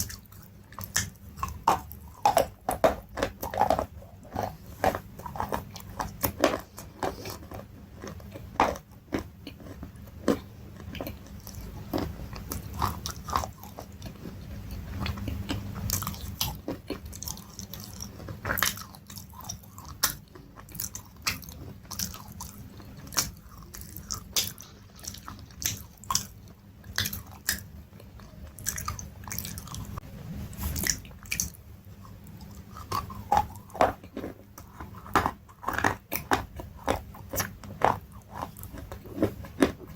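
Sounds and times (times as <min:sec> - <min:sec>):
person crunching food: 0:00.0 - 0:30.0, 0:30.7 - 0:39.9
soft chewing: 0:00.0 - 0:39.9.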